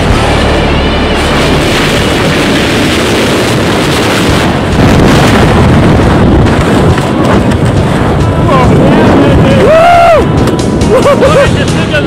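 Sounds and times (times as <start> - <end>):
freefall wind buffeting microphone: 0.0 - 12.0.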